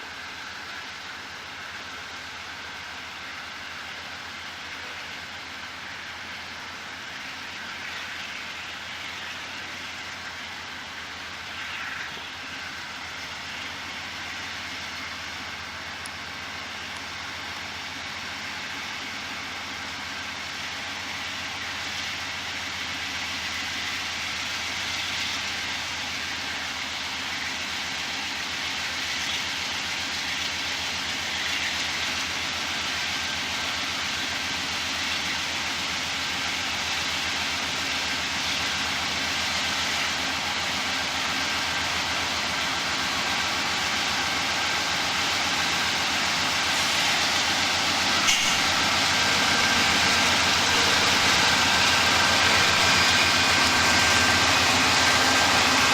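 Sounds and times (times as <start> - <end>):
diesel locomotive engine throbbing: 0.0 - 55.9.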